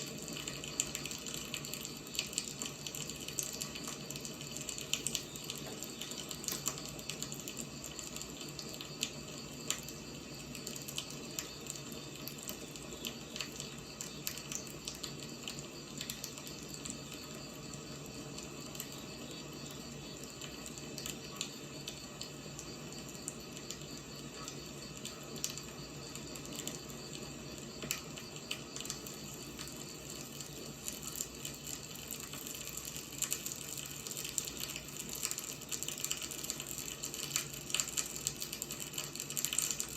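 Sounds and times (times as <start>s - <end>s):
firewood burning and crackling: 0.0s - 39.9s.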